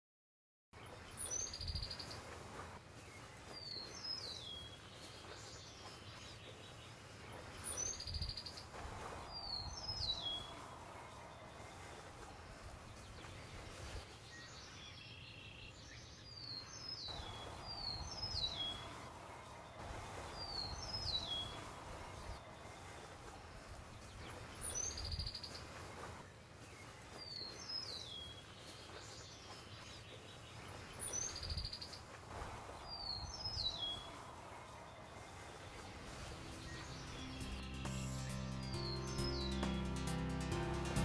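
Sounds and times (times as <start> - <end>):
songbird chirping: 0.8 - 41.0.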